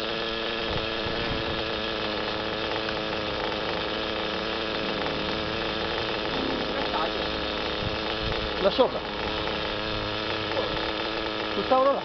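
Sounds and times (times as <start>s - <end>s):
small engines buzzing: 0.0s - 12.0s.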